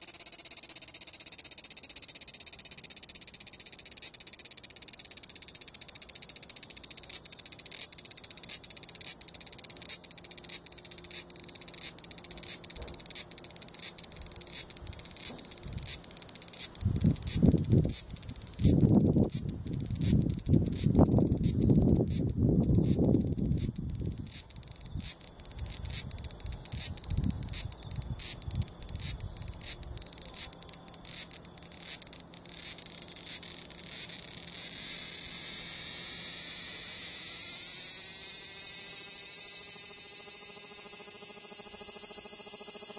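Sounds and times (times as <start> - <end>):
cicada buzzing in pulses: 0.0 - 42.9.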